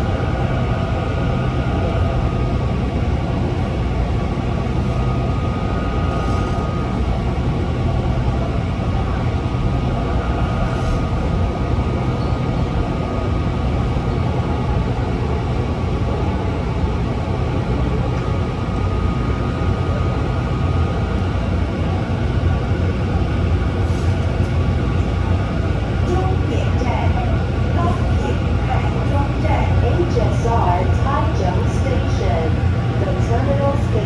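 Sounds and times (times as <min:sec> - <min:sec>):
steady train whine: 0:00.0 - 0:34.0.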